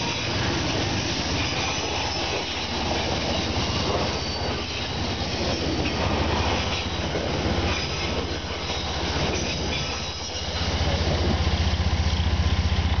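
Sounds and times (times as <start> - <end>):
train coaches rolling past: 0.0 - 13.0.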